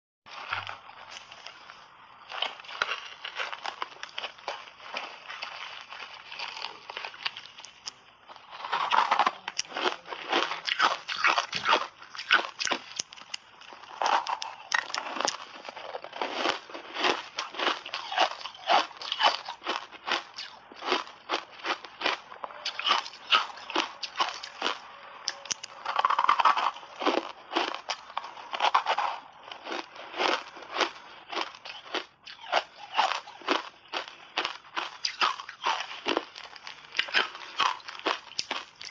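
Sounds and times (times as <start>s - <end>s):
ice crunched between teeth: 0.3s - 38.9s.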